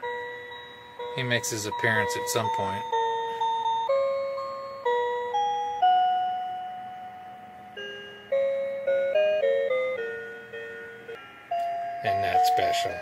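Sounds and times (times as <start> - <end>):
electronic chime melody: 0.0 - 13.0.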